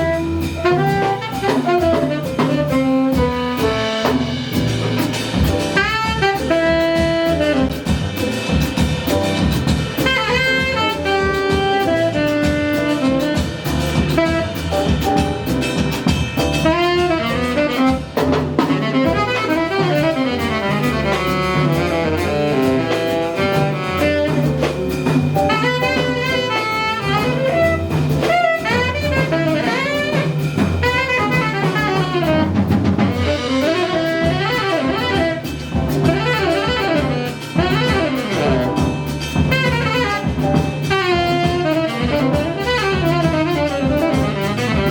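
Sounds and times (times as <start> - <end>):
saxophone solo: 0.0 - 9.2, 9.9 - 44.9
double bass: 0.0 - 44.9
drum kit: 0.0 - 44.9.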